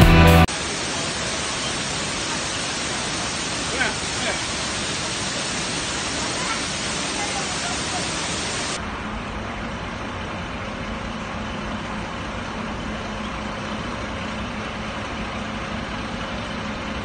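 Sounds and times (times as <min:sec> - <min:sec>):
bus engine humming: 0:00.0 - 0:17.0.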